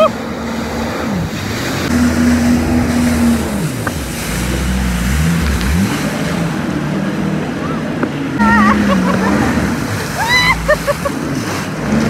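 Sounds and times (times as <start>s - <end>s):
water spray rushing: 0.0s - 7.4s, 8.3s - 12.0s
jet ski engine running: 0.0s - 12.0s.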